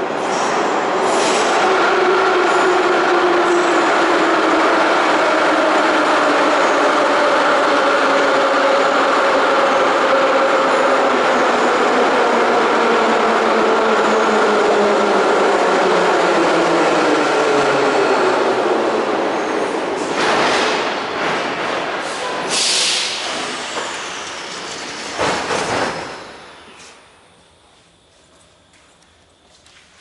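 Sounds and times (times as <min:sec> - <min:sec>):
metro train rumble: 0:00.0 - 0:30.0.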